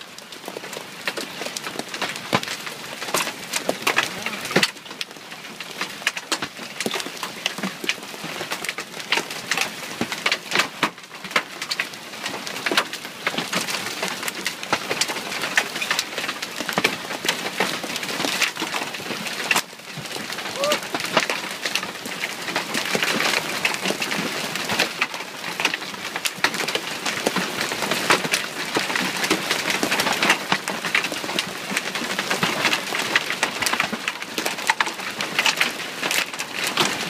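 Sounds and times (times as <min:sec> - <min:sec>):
hailstones striking: 0:00.0 - 0:37.0.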